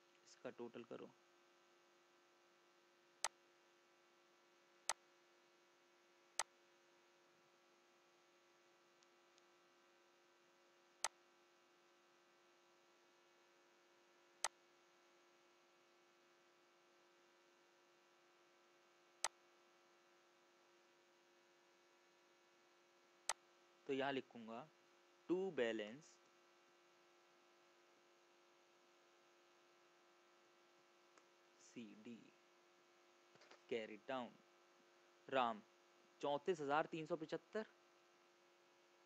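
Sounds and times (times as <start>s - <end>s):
low electrical hum: 0.0s - 39.0s.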